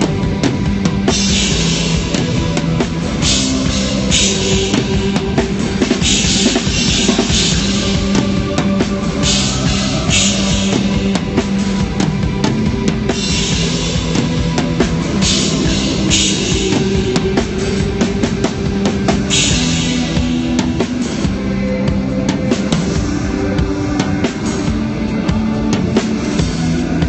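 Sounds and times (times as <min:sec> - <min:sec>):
drum kit with cymbal washes: 0:00.0 - 0:27.0
sustained low instrument notes: 0:00.0 - 0:27.0.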